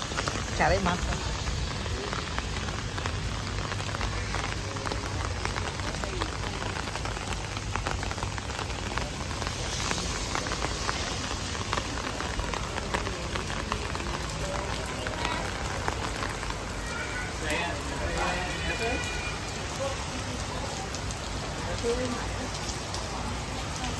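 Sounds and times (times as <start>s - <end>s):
rain falling: 0.0s - 23.9s
raindrops ticking on umbrella: 0.0s - 23.9s.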